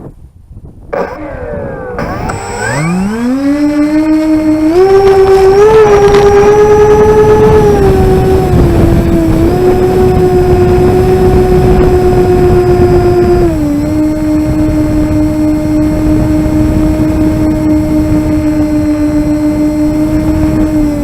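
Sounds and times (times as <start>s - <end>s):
wind rumble on microphone: 0.0s - 21.0s
electric motor and propeller whining: 0.8s - 21.0s.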